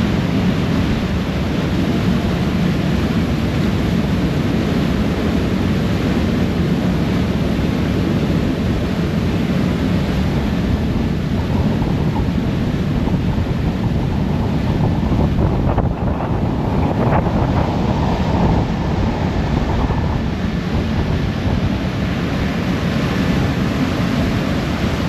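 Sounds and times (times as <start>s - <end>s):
rushing churned water: 0.0s - 25.0s
wind buffeting microphone: 0.0s - 25.0s.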